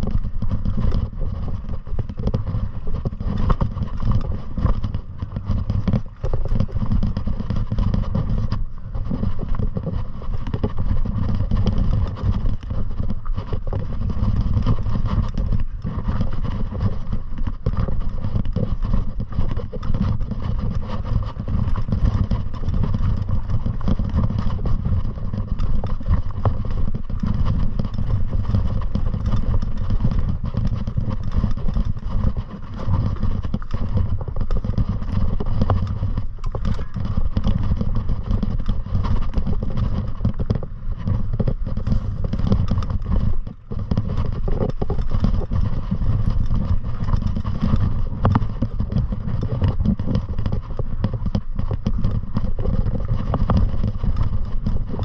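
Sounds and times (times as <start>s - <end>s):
small clatters and scrapes: 0.0s - 55.0s
wind buffeting microphone: 0.0s - 55.0s.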